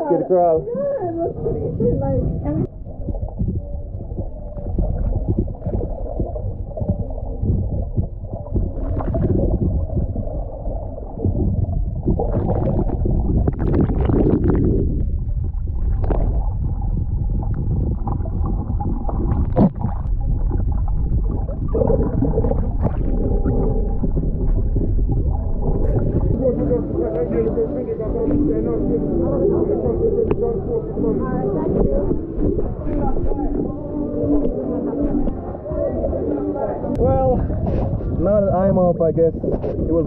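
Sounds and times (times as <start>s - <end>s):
underwater rumble of moving water: 0.0s - 40.0s
bubbling and splashing: 0.7s - 40.0s.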